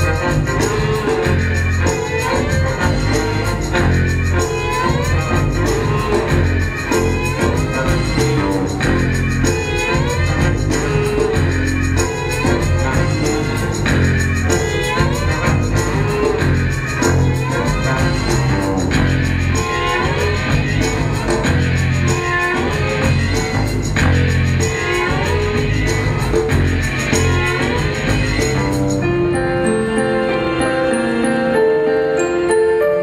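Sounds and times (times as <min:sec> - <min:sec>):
rock music with guitar and bass: 0:00.0 - 0:32.2.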